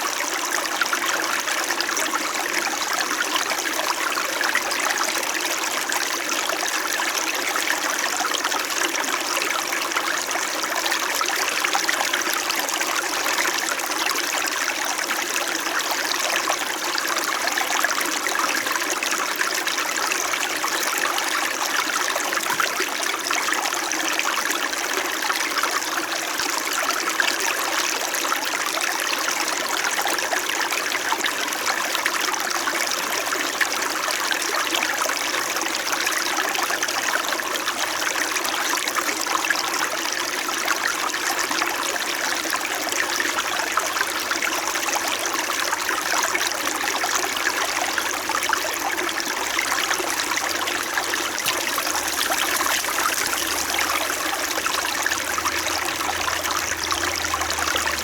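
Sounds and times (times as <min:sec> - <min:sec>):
small stream babbling: 0:00.0 - 0:58.0.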